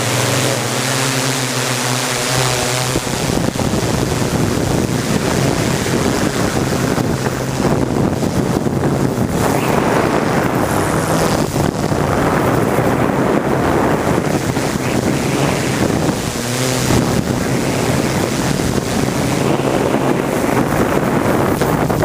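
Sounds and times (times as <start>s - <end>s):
aircraft propeller drone: 0.0s - 22.0s
wind buffeting microphone: 0.0s - 22.0s.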